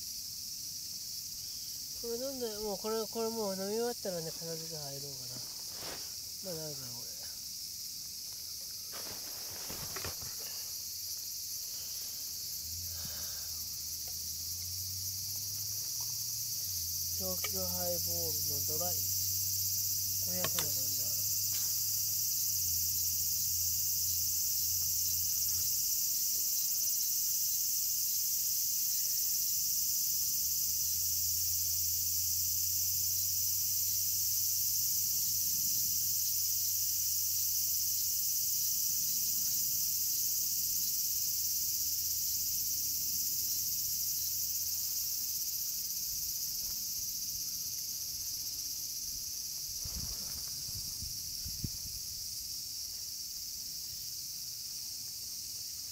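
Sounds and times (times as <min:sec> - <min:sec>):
shrill insect chorus: 0:00.0 - 0:55.9.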